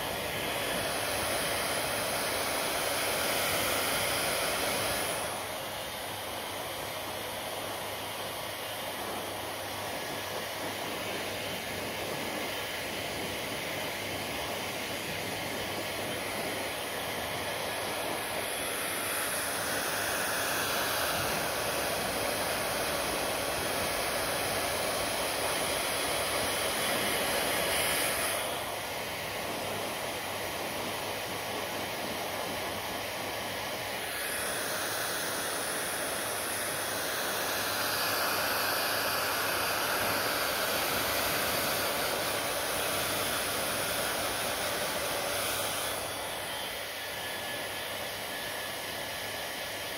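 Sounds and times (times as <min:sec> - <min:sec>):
hair dryer blowing: 0:00.0 - 0:49.9.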